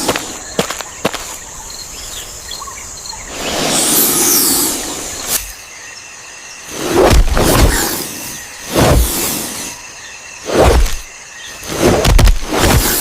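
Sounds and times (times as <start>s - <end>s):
faint bird chirps: 0.2s - 12.0s.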